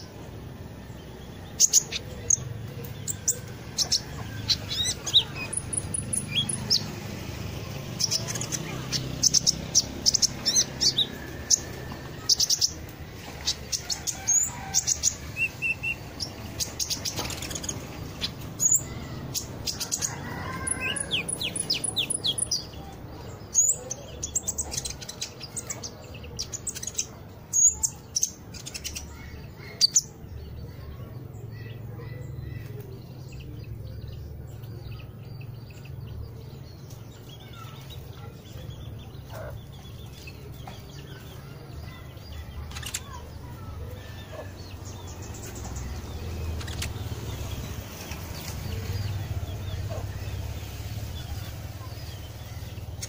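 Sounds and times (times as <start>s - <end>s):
songbird chirps and trills: 0.0s - 53.0s.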